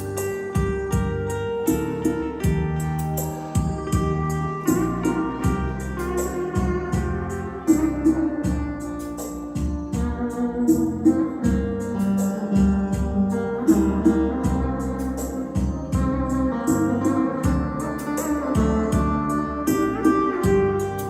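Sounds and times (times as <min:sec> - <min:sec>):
instrumental music with heavy bass: 0:00.0 - 0:21.0.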